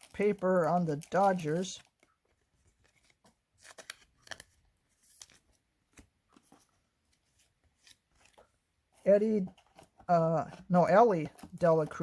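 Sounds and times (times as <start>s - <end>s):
trading cards rustling: 0.0s - 12.0s.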